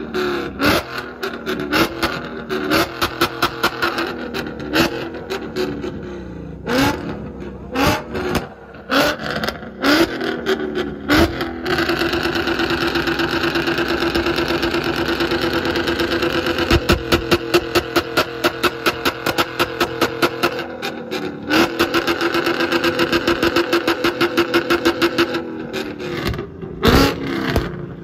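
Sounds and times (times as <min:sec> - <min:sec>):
car engine revving: 0:00.0 - 0:28.0
exhaust cracks: 0:00.0 - 0:28.0.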